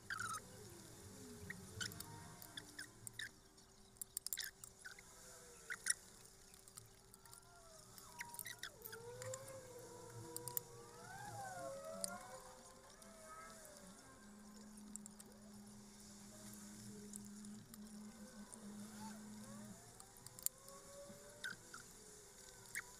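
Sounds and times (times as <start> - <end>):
faint wavering tune: 0.0 - 4.0, 4.6 - 22.9.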